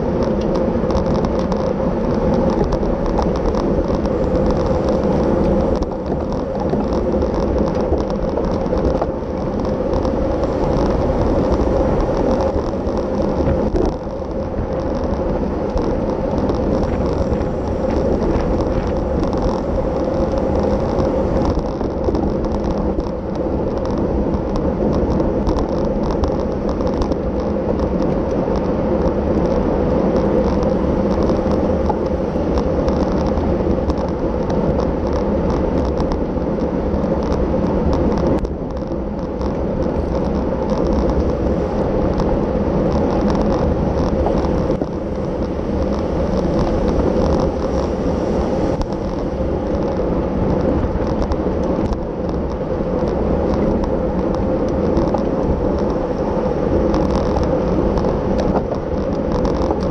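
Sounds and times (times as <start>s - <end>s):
tyre and road noise: 0.0s - 59.9s
wind rushing over microphone: 0.0s - 59.9s
faint ticks: 0.1s - 59.9s.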